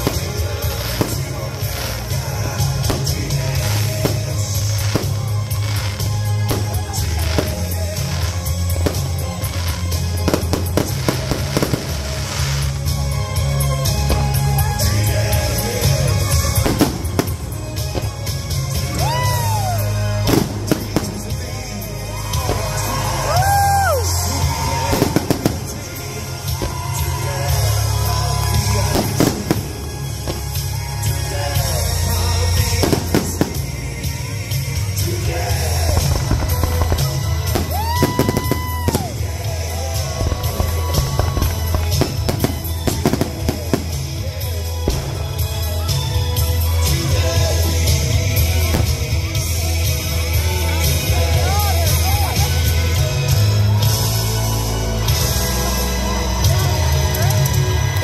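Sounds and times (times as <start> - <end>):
fireworks bangs and crackles: 0.0 - 58.0
loud music: 0.0 - 58.0.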